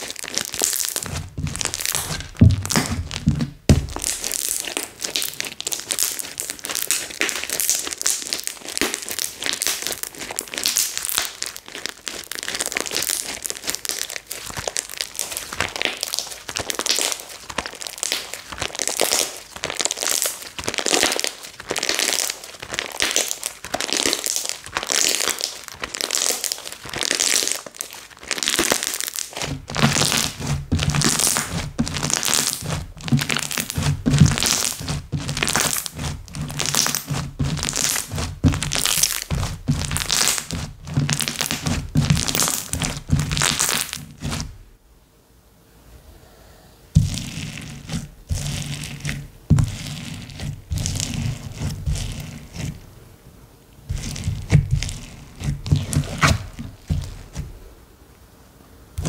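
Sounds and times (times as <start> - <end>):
slime squishing and crackling: 0.0 - 44.7, 47.0 - 52.9, 53.8 - 57.7.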